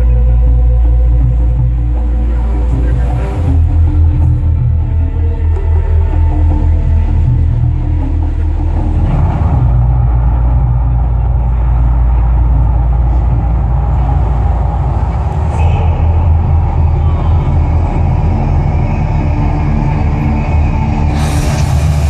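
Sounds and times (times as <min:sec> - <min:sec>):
deep rumble over loudspeakers: 0:00.0 - 0:22.0.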